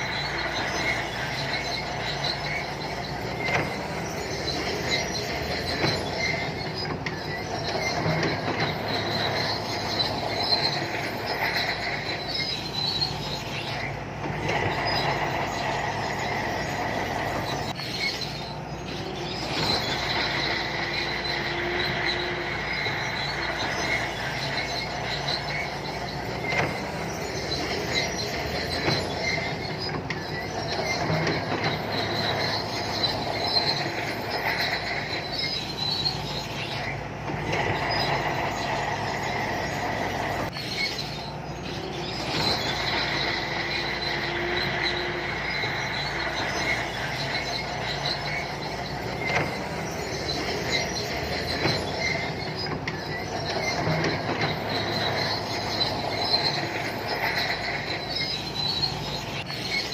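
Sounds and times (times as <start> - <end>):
diesel engine under load: 0.0 - 59.9
steel tracks squealing and clanking: 0.0 - 59.9.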